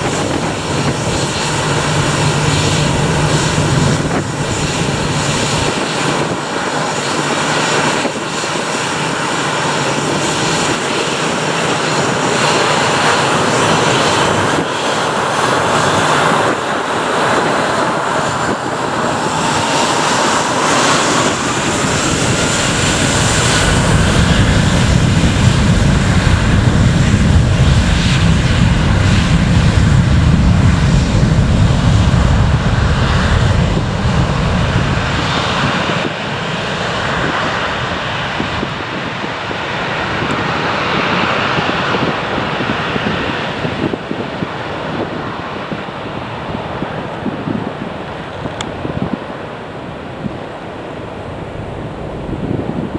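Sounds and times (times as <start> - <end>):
airplane engines roaring: 0.0 - 52.9
engine whine: 0.0 - 52.9.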